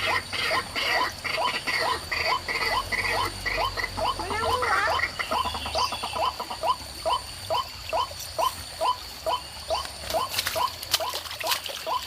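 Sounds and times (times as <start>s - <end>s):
waterhen calling rising notes: 0.1s - 12.0s.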